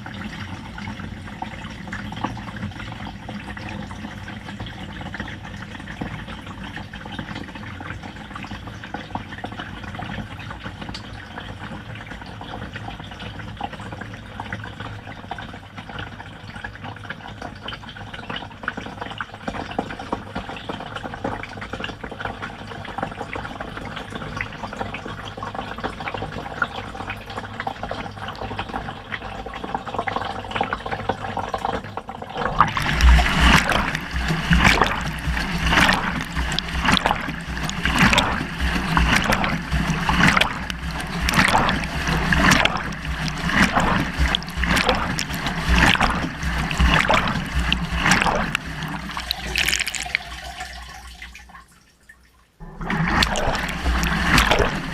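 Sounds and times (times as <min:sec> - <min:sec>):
water sloshing in washing machine: 0:00.0 - 0:54.9.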